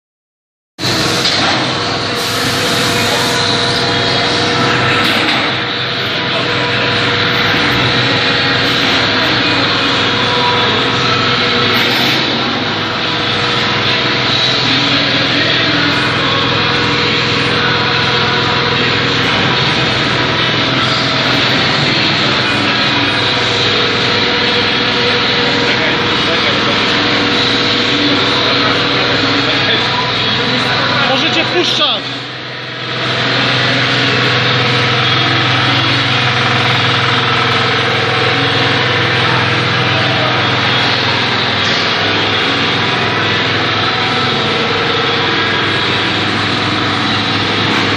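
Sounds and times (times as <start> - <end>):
production line machine drone: 0.8 - 47.9.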